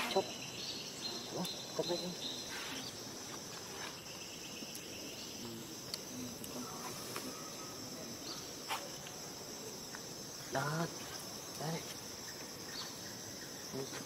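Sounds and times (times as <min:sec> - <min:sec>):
forest insects chorus: 0:00.0 - 0:14.0.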